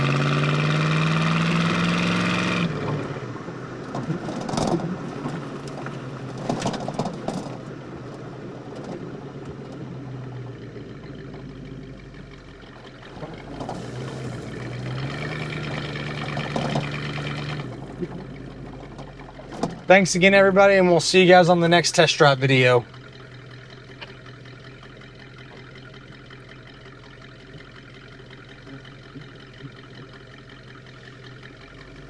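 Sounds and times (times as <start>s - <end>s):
car engine running inside car: 0.0s - 32.0s.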